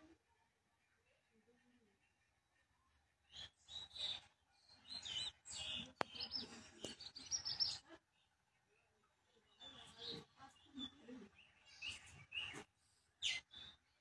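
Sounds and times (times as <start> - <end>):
birds chirping: 2.0 - 14.0.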